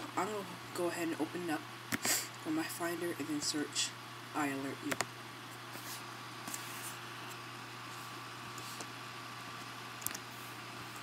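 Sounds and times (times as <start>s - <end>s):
computer hum and hiss: 0.0s - 11.0s.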